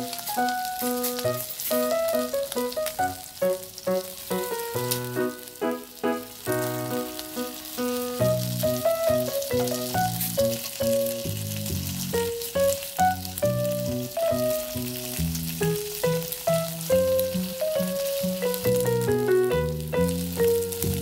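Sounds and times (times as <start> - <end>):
chicken sizzling in oil: 0.0 - 21.0.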